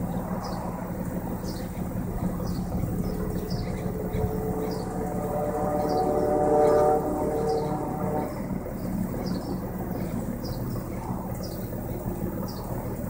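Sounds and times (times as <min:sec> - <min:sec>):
car exhaust note: 0:00.0 - 0:13.0.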